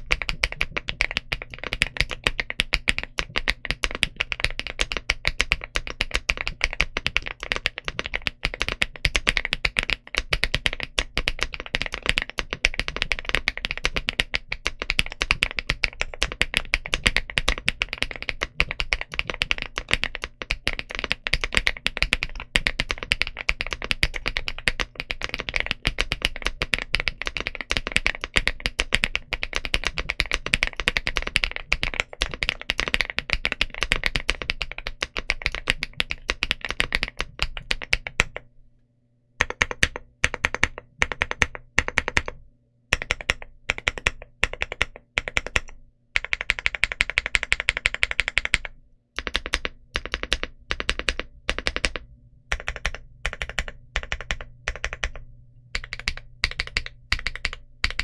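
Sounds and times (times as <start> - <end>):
mechanical keyboard typing: 0.0 - 38.5, 39.4 - 58.0.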